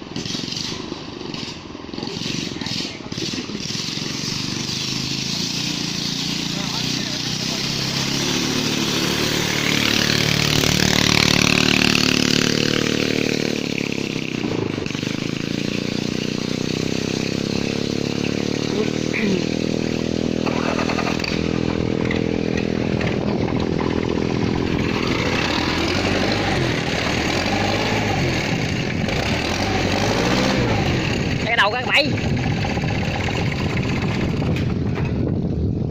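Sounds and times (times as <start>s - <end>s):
combine harvester engine running: 0.0s - 35.9s.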